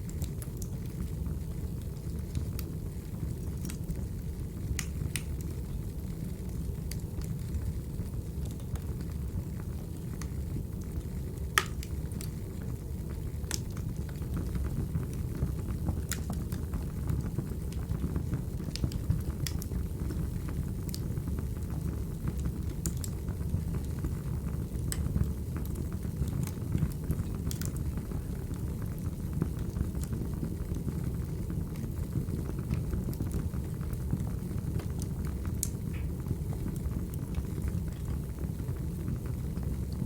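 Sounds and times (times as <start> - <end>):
firewood burning with crackles: 0.0 - 40.0.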